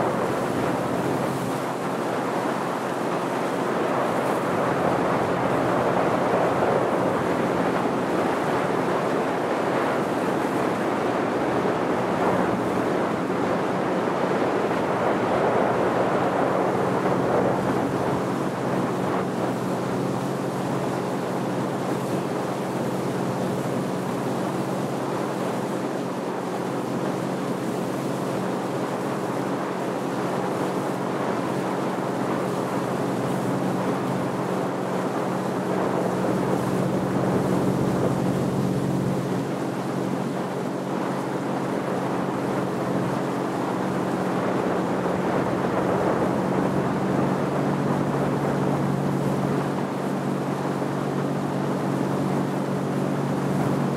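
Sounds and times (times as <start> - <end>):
motorboat engine hum: 0.0 - 53.9
water rushing past hull: 0.0 - 53.9.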